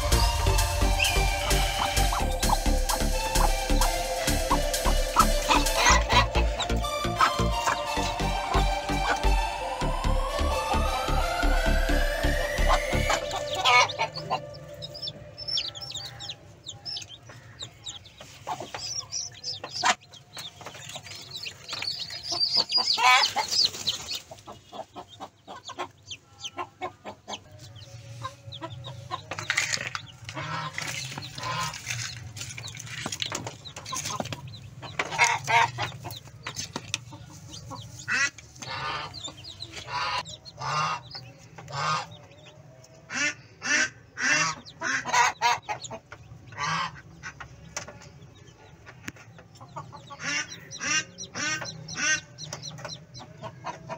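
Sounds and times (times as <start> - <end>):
chicks and ducklings peeping: 0.0 - 53.9.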